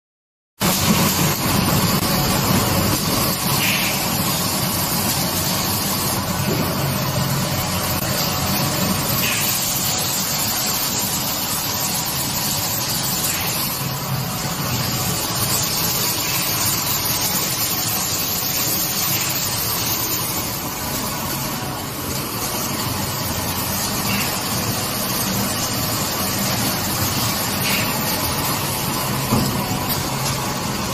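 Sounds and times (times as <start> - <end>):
constant hiss: 0.6 - 30.9
screen printing machine humming: 0.6 - 30.9.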